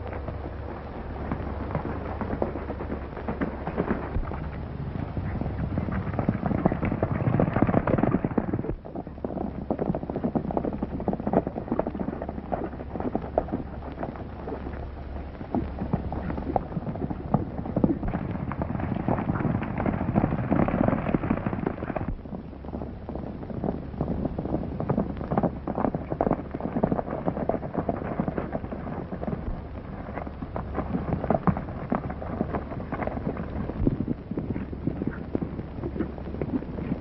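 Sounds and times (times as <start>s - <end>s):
horses galloping on dirt: 0.0s - 37.0s
low steady hum: 0.0s - 37.0s.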